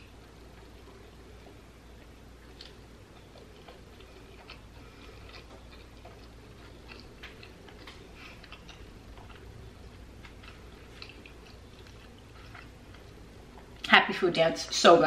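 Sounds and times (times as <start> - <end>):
person chewing food: 0.0 - 13.9
low room hum: 0.0 - 15.0.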